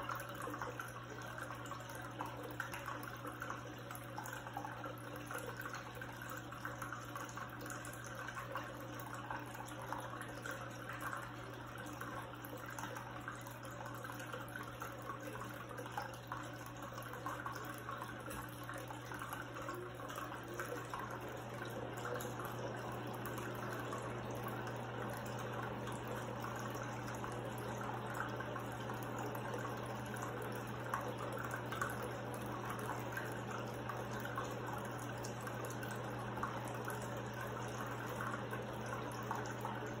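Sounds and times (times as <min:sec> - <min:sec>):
fountain water trickling: 0:00.0 - 0:40.0.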